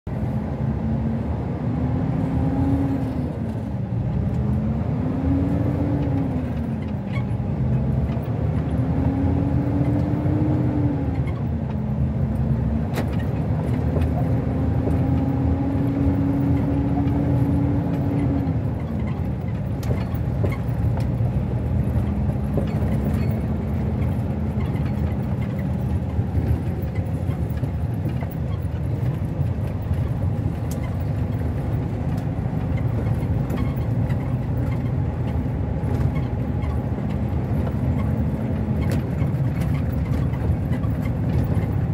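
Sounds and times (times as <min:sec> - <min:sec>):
vehicle engine and rolling noise: 0:00.0 - 0:41.9.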